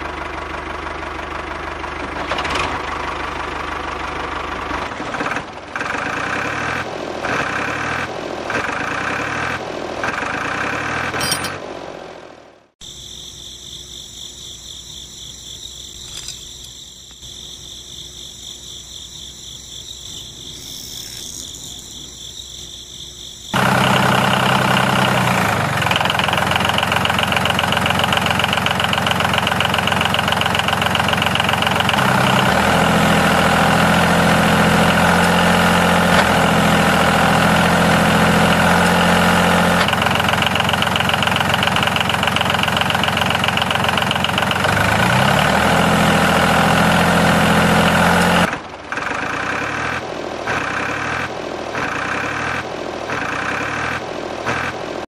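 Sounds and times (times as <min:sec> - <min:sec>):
engine running: 0:00.0 - 0:12.8, 0:15.2 - 0:55.0.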